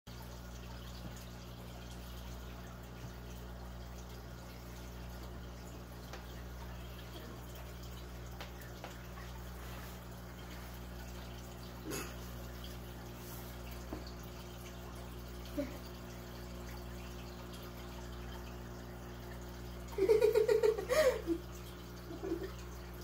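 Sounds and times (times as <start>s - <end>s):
low room hum: 0.1s - 23.0s.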